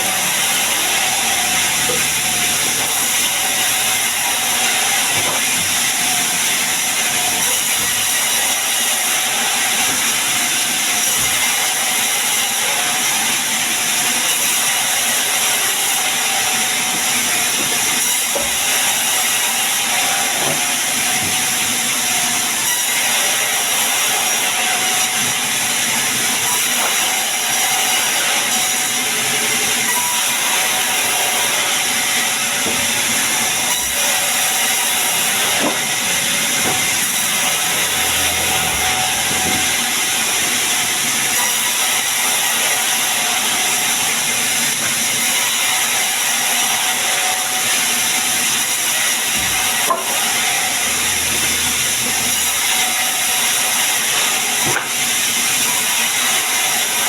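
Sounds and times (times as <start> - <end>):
sawmill saw cutting log: 0.0 - 57.0.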